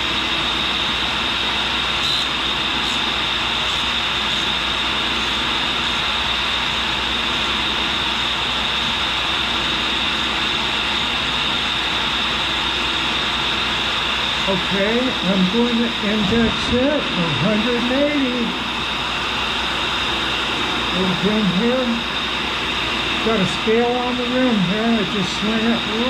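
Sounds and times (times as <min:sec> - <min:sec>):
grinder whirring with high hiss: 0:00.0 - 0:26.0.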